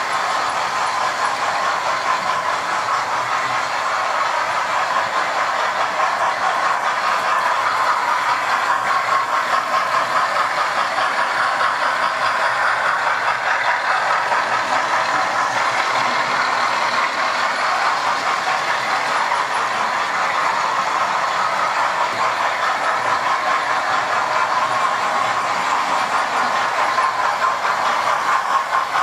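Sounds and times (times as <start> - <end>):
model train whirring on track: 0.0 - 29.0.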